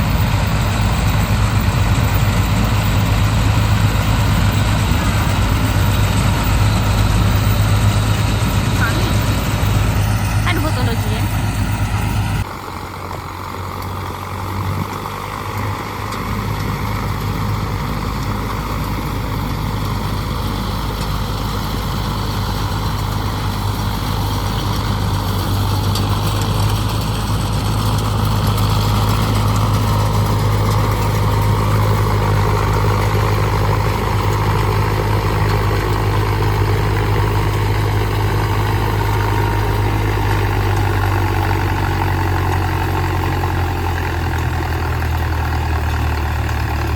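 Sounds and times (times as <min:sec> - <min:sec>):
tractor diesel engine hum: 0:00.0 - 0:46.9.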